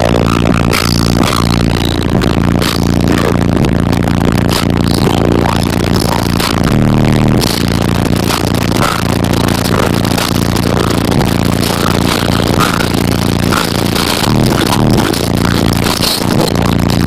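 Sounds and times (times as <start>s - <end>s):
bass-heavy music from subwoofers: 0.0s - 17.0s
cab rattling and buzzing: 0.0s - 17.0s.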